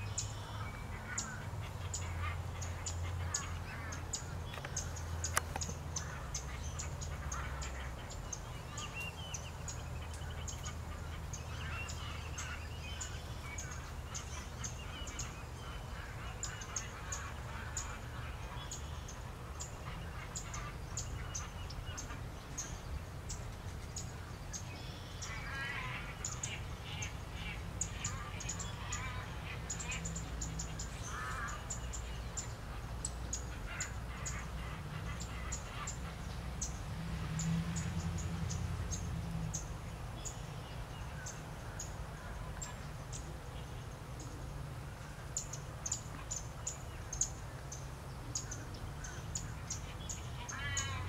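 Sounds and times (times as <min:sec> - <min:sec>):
lower wavering bird calls: 0:00.0 - 0:51.0.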